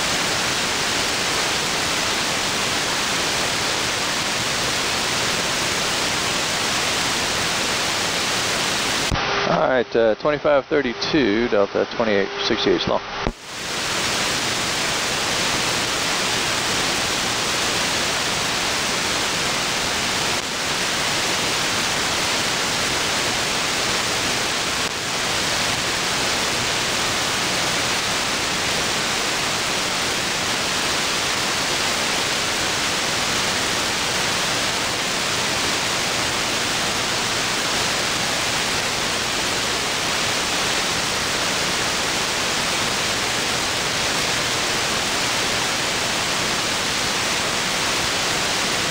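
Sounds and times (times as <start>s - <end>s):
radio static hiss: 0.0s - 48.9s.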